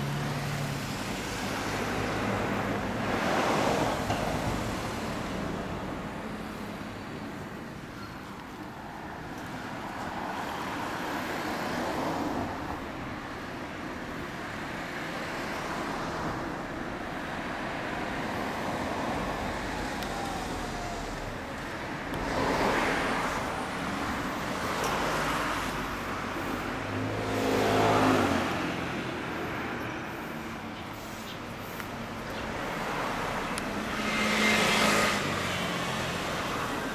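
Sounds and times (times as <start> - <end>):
vehicles passing: 0.0 - 36.9.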